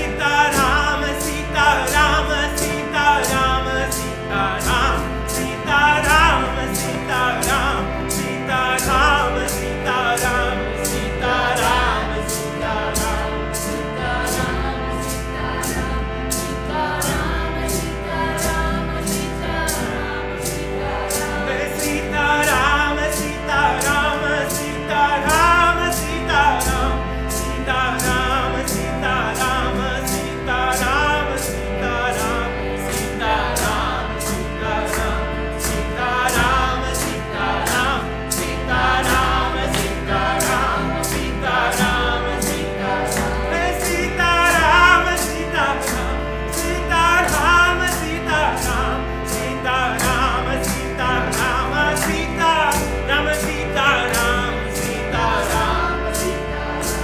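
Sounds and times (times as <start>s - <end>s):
group chanting: 0.0s - 57.0s
sharp percussive strikes: 0.0s - 57.0s
sustained accompanying tones: 0.0s - 57.0s.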